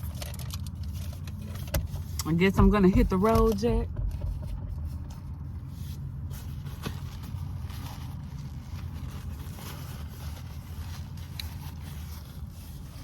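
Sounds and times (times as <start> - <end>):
car engine rumbling inside cabin: 0.0 - 13.0.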